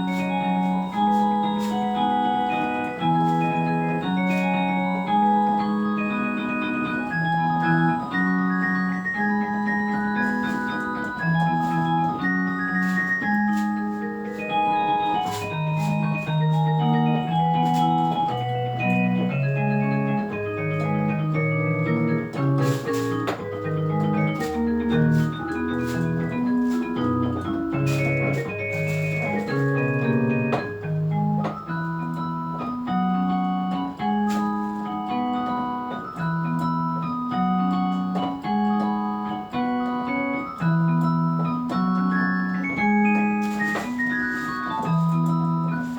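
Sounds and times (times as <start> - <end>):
electronic organ keyboard music: 0.0 - 45.9.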